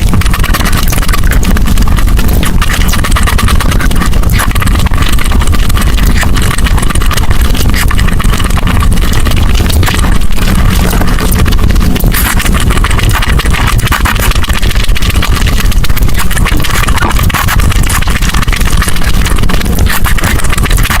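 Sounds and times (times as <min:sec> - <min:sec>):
chewing and crunching food: 0:00.0 - 0:21.0
low rumble: 0:00.0 - 0:21.0.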